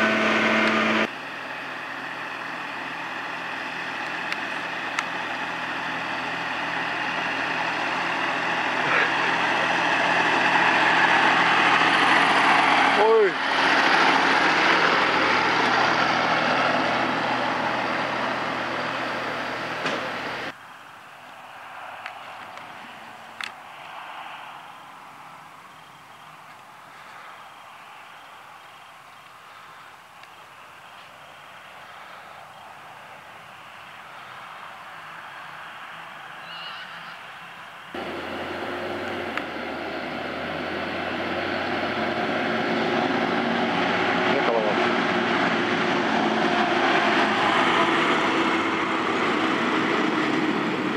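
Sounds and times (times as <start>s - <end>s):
tractor engine running: 0.0s - 36.4s, 37.3s - 50.9s.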